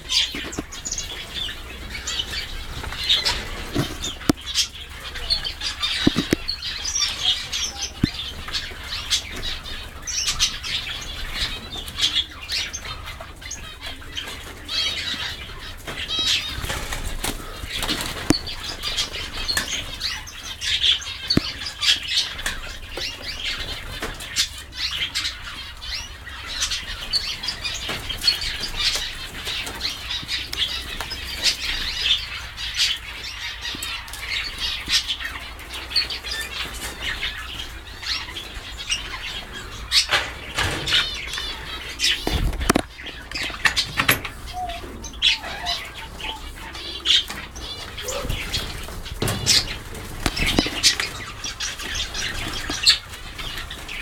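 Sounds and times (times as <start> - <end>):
finches chirping and calling: 0.0 - 54.0.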